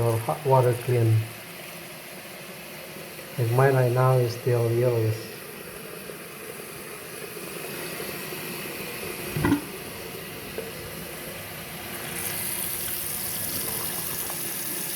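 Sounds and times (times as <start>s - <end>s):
water running from faucet: 0.0s - 14.9s.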